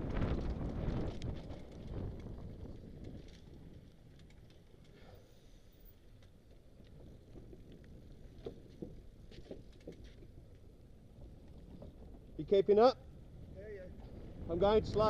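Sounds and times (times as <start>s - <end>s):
bike clicks and rattles: 0.0s - 15.0s.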